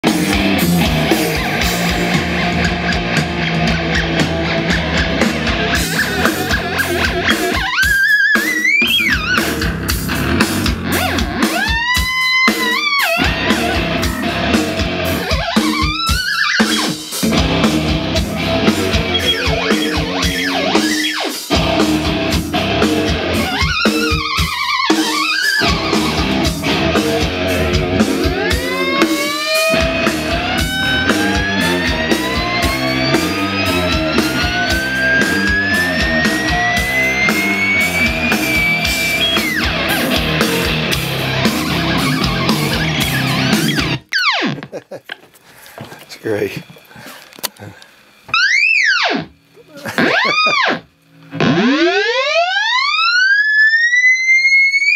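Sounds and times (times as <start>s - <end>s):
backing track with steady beat: 0.0s - 46.1s
theremin swooping: 0.4s - 44.6s, 50.0s - 54.9s.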